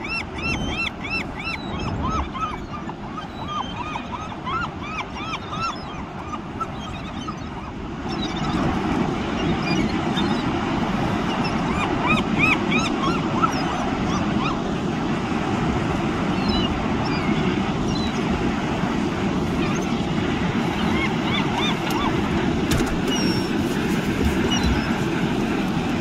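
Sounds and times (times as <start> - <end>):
gulls calling: 0.0 - 26.0
surf and wind rushing: 0.0 - 26.0.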